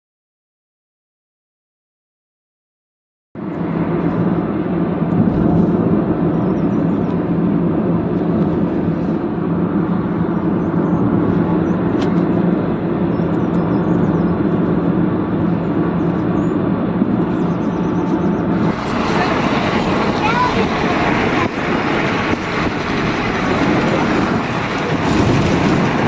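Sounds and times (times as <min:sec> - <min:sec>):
car engine and road noise: 0:03.4 - 0:26.0
constant low hum: 0:03.4 - 0:26.0.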